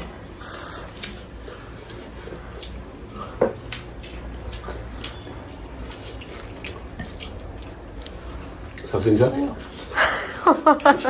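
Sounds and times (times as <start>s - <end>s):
people chewing and lip smacking: 0.0s - 11.0s.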